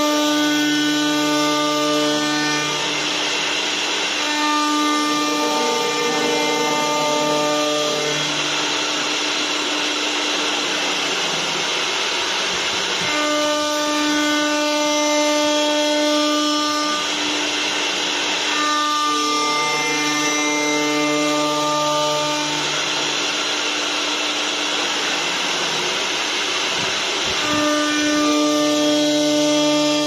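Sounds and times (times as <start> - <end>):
router spindles whining: 0.0 - 30.0.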